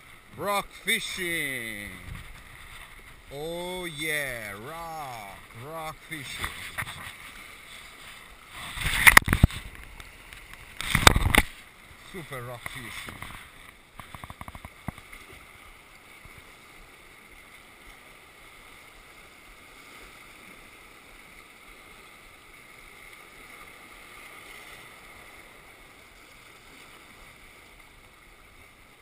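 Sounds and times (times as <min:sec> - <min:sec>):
sea waves washing over rocks: 0:00.0 - 0:29.0.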